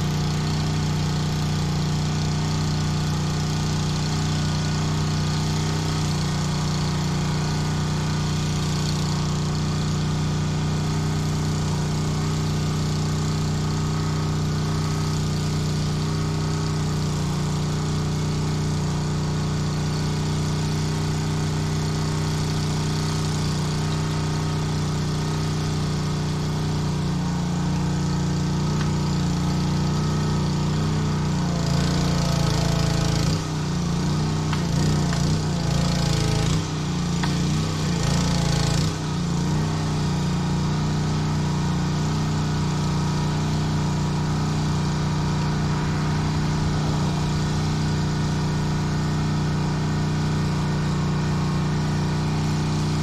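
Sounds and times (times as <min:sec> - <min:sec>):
small gasoline engine running: 0:00.0 - 0:53.0.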